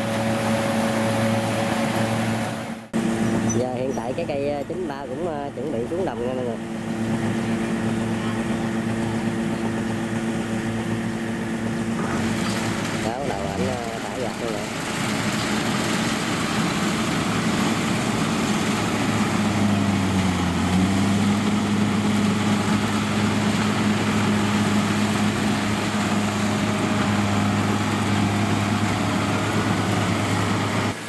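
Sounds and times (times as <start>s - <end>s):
combine harvester engine drone: 0.0s - 31.0s.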